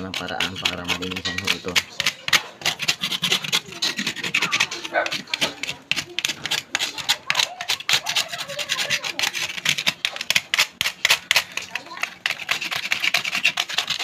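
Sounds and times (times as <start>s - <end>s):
knife scraping coconut husk: 0.0s - 14.0s.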